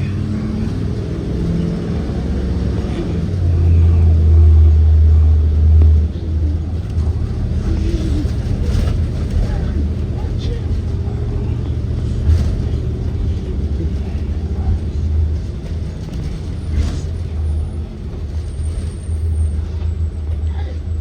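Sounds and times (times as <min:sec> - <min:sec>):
bus engine droning: 0:00.0 - 0:21.0
road rumble: 0:00.0 - 0:21.0.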